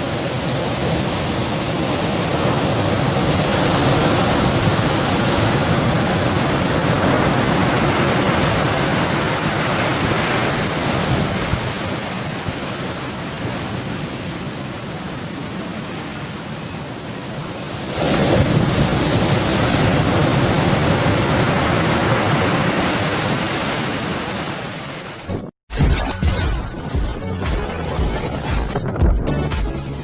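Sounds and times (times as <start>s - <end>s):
waves rushing and surging: 0.0s - 25.5s
wind: 0.0s - 25.5s.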